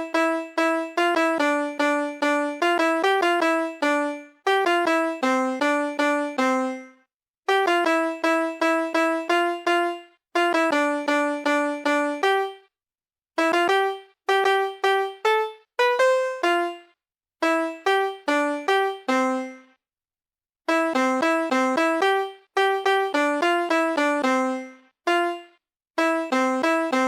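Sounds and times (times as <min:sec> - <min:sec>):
toy electronic piano notes: 0:00.0 - 0:06.9, 0:07.5 - 0:12.6, 0:13.4 - 0:19.7, 0:20.7 - 0:27.0.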